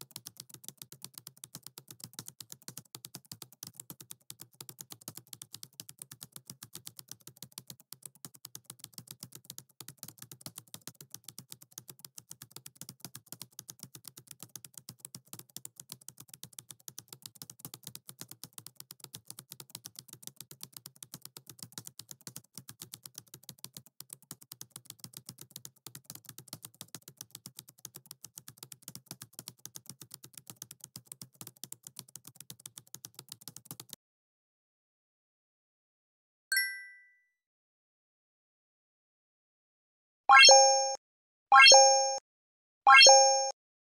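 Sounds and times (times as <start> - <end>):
keyboard typing clicks: 0.0 - 34.0, 40.3 - 41.0, 41.6 - 42.2, 42.9 - 43.5.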